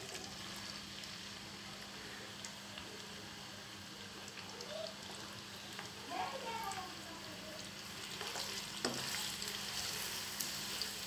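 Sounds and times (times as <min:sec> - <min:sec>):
onions sizzling in hot fat: 0:00.0 - 0:11.0.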